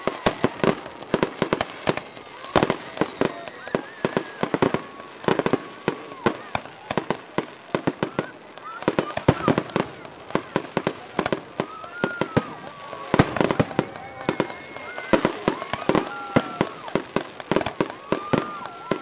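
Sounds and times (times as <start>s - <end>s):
fireworks bangs and pops: 0.0s - 19.0s
fireworks whistling: 0.0s - 19.0s.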